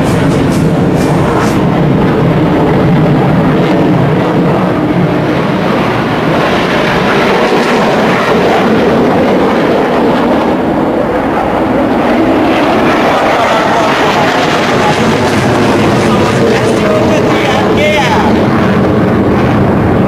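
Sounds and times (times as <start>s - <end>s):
jet aircraft roaring overhead: 0.0s - 20.0s.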